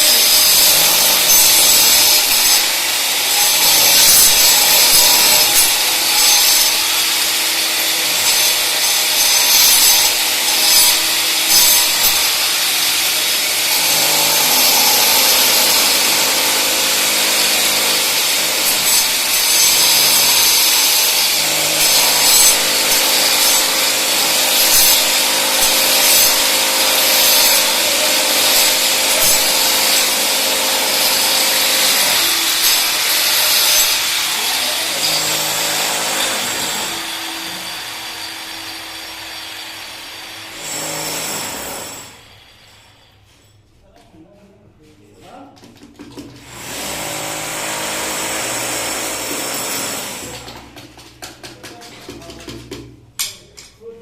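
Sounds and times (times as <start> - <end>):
loud sawing noise: 0.0 - 43.2, 46.4 - 50.8.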